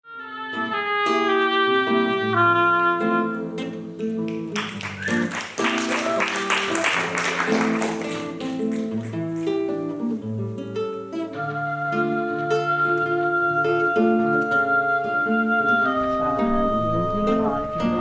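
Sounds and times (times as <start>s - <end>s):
instrumental melody: 0.3s - 18.0s.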